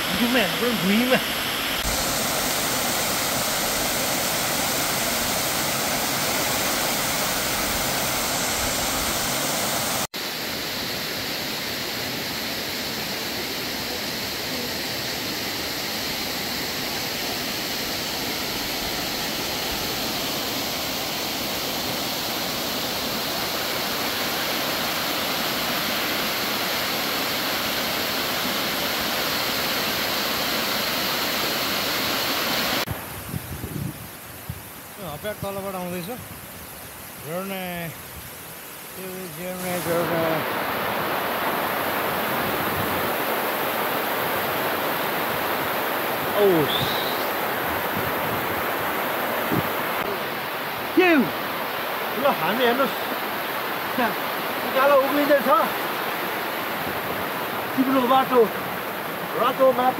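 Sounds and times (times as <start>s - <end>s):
waterfall rushing: 0.0s - 33.2s, 34.4s - 59.9s.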